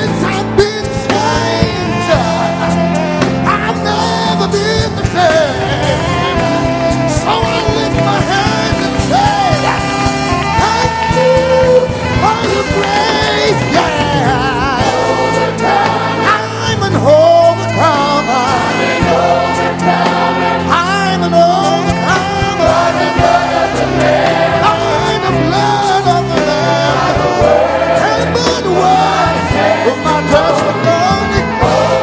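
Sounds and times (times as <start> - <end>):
band with drums and bass: 0.0 - 32.0
choir singing: 0.0 - 32.0
lead vocalist singing: 0.0 - 32.0.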